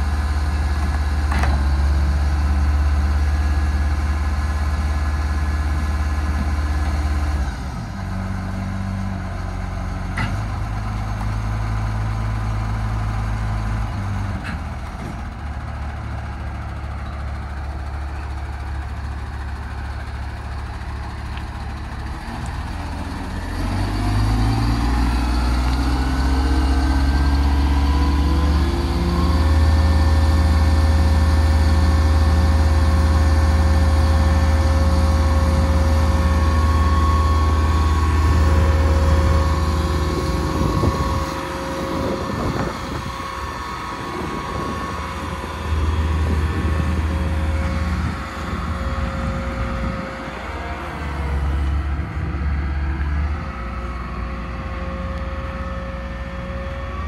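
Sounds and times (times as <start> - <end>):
crane diesel engine running: 0.0 - 57.0.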